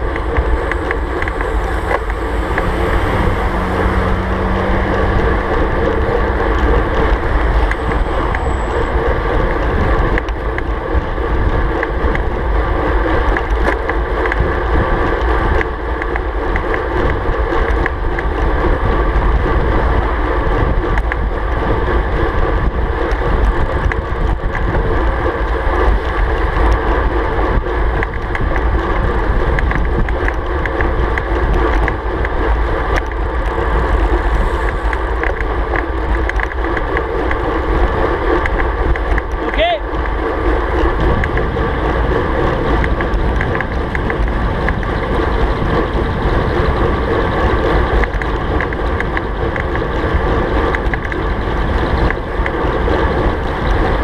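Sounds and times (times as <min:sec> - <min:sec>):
truck engine: 0:00.0 - 0:54.0
tyre and road noise: 0:00.0 - 0:54.0
wind buffeting microphone: 0:00.0 - 0:54.0.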